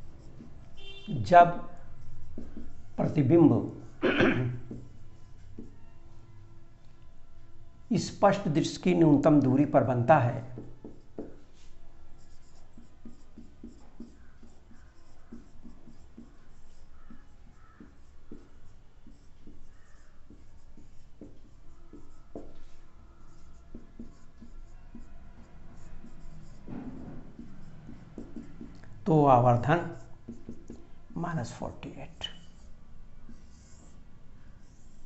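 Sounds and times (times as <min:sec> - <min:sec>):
marker scratching on whiteboard: 0:00.0 - 0:06.3, 0:07.9 - 0:35.0
marker squeaks: 0:00.2 - 0:04.0, 0:04.6 - 0:06.3, 0:10.5 - 0:35.0.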